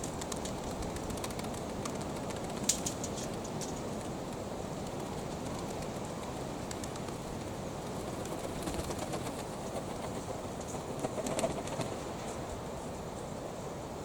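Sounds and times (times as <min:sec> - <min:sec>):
small clicks and rustles: 0:00.0 - 0:12.6
wind noise on microphone: 0:00.0 - 0:14.0.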